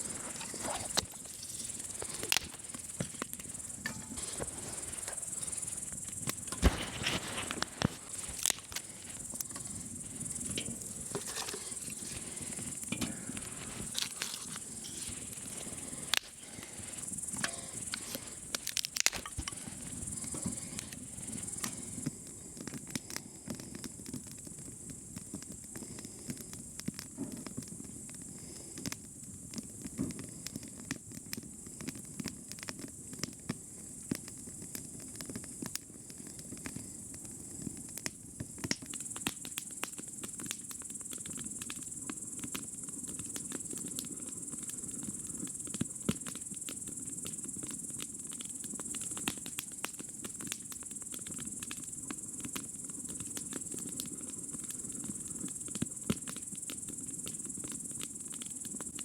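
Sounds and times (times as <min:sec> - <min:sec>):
crickets chirping: 0:00.0 - 0:30.6, 0:33.0 - 0:59.0
small crackles or clicks: 0:00.0 - 0:59.0.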